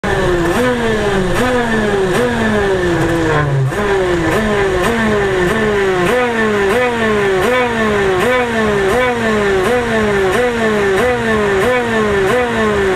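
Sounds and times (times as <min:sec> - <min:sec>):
kart two-stroke engine revving: 0:00.0 - 0:12.9.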